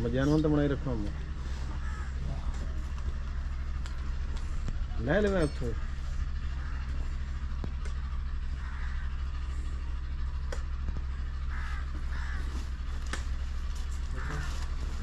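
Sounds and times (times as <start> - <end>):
low mechanical hum: 0.0 - 15.0
crows cawing: 0.4 - 15.0.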